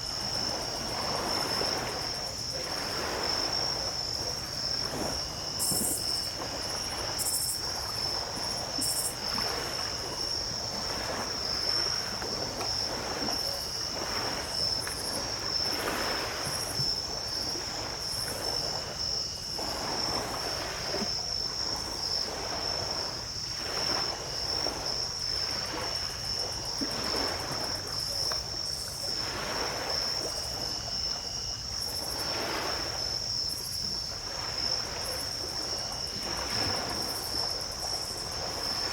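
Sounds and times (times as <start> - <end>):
crickets trilling: 0.0 - 38.9
small waves washing onto beach: 0.0 - 38.9.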